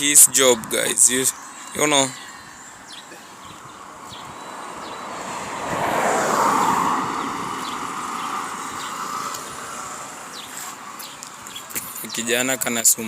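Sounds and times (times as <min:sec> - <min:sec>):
vehicle passing by: 0:00.2 - 0:12.2.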